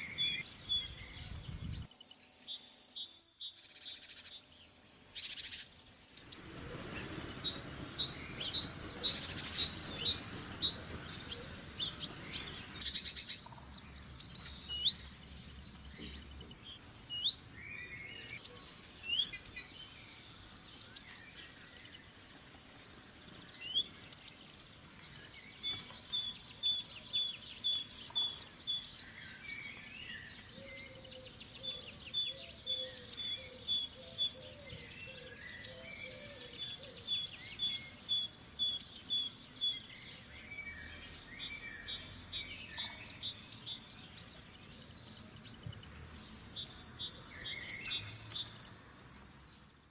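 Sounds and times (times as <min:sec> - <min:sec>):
bird singing high fast trill: 0:00.0 - 0:20.0, 0:20.7 - 0:22.1, 0:23.5 - 0:34.4, 0:35.4 - 0:48.8
soft bird chirps: 0:00.0 - 0:49.9.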